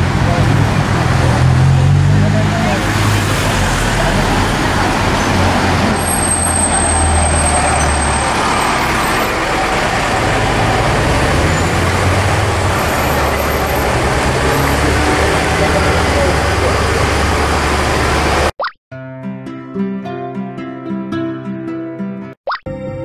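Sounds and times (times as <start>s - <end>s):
motor vehicle engines rumbling: 0.0s - 18.5s
road noise hiss: 0.0s - 18.5s.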